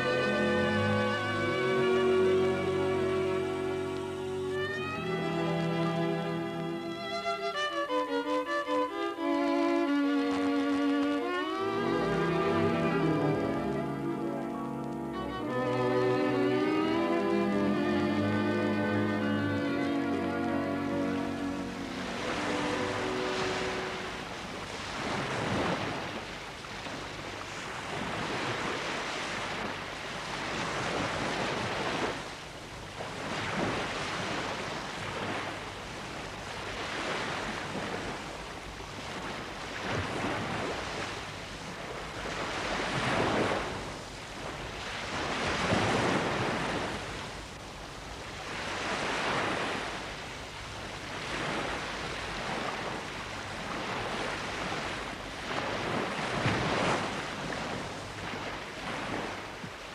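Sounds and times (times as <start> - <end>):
surf waves breaking: 0.0 - 59.9.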